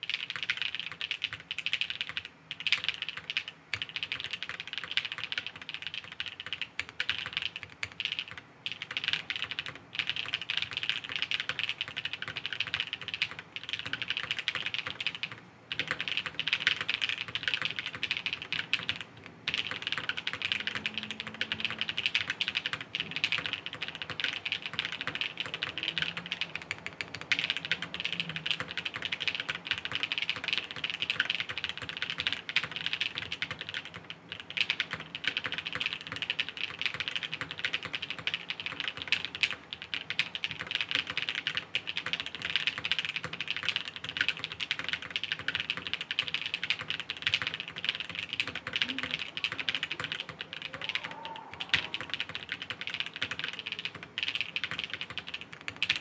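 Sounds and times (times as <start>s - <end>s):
fast mechanical keyboard typing: 0.0s - 56.0s.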